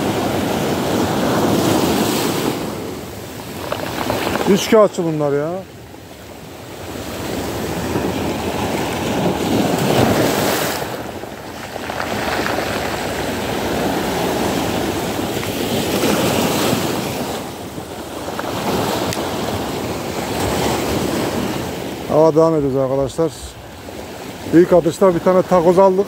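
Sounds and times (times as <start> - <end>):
sea waves washing ashore: 0.0 - 26.0
wind buffeting microphone: 0.0 - 26.0.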